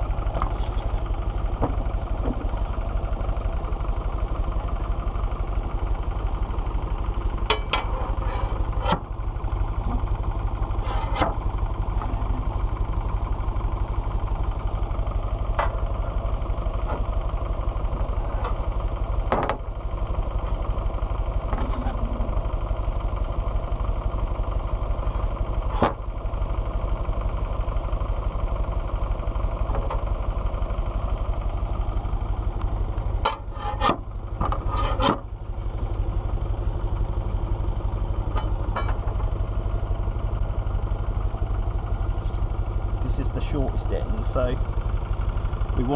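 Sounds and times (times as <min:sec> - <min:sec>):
tractor engine running: 0:00.0 - 0:45.9
sawmill knocks and clatters: 0:00.1 - 0:23.6, 0:25.0 - 0:27.2, 0:28.7 - 0:45.8.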